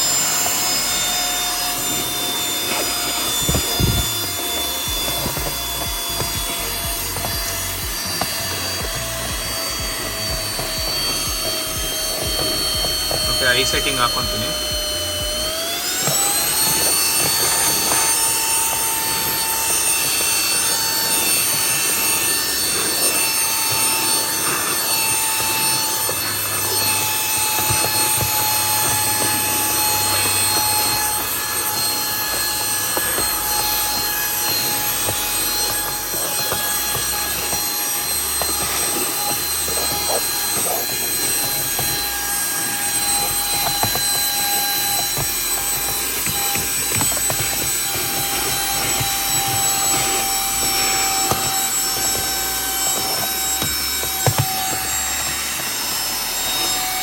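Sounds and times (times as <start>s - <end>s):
handheld vacuum cleaner running: 0.0s - 57.0s.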